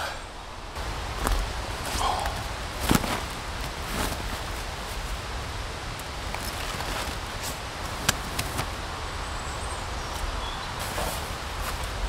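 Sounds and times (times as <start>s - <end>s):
rushing woodland background: 0.0s - 12.0s
wind rumbling on microphone: 0.0s - 12.0s.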